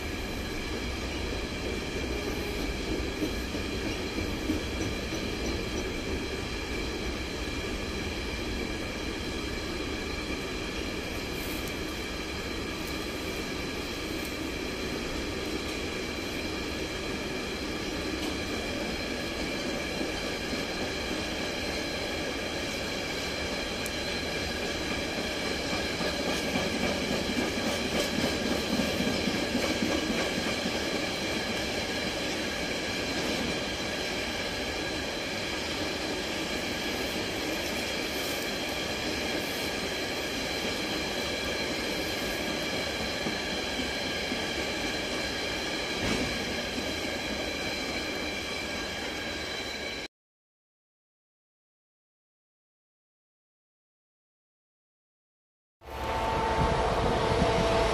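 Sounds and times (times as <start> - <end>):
train wheels rumbling on rails: 0.0 - 50.1, 55.9 - 57.9.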